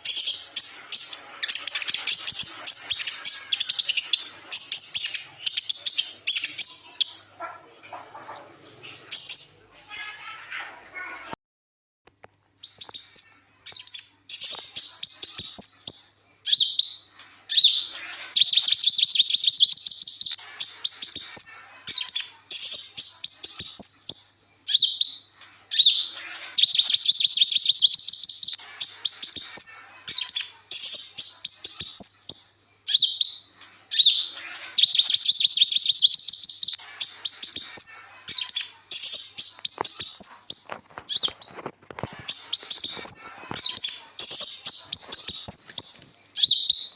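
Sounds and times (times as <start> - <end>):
sunbird singing: 0.0 - 7.4, 12.6 - 46.9.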